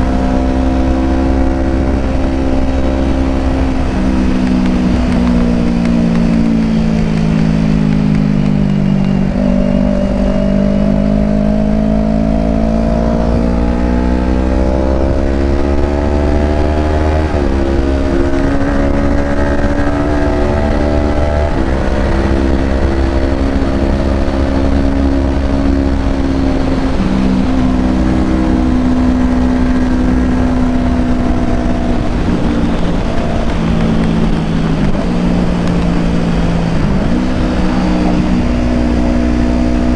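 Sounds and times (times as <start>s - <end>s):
motorcycle engine accelerating: 0.0s - 39.9s
riding wind rush: 0.0s - 39.9s.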